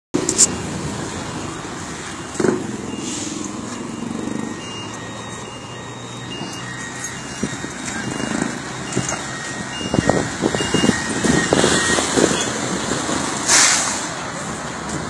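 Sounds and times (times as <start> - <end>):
bus engine idling: 0.2 - 15.0.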